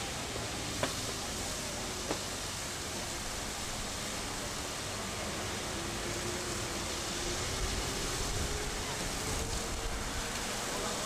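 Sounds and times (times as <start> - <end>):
fire hydrant water jet: 0.0 - 11.0.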